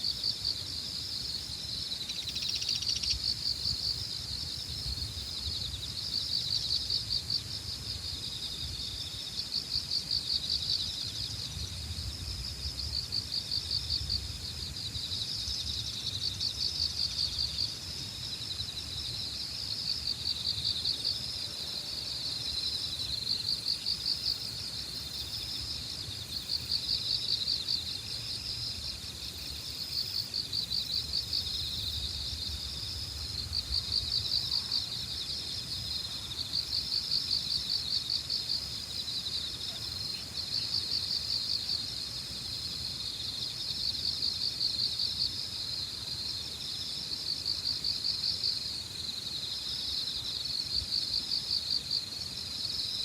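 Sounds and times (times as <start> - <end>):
insects chirping: 0.0 - 53.0
pulsing insect trills: 0.0 - 53.0.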